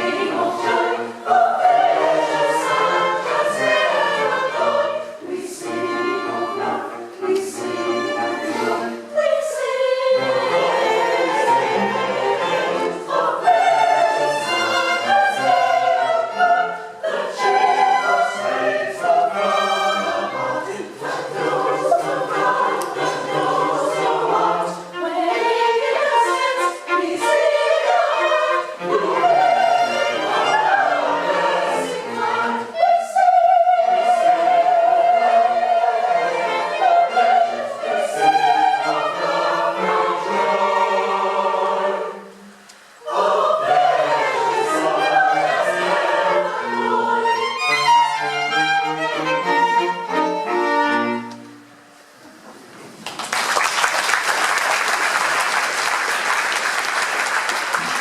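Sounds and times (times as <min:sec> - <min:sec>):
choir singing: 0:00.0 - 0:52.1
string ensemble: 0:00.0 - 0:58.0.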